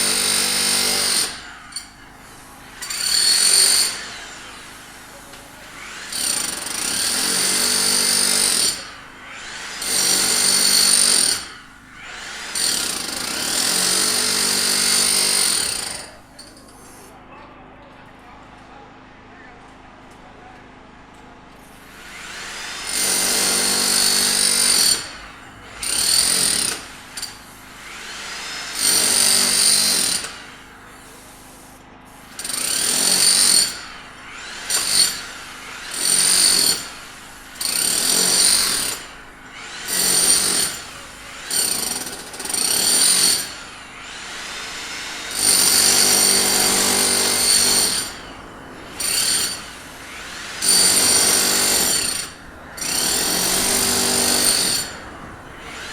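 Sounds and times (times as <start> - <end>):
power tool bursts: 0.0 - 17.1, 21.6 - 55.9.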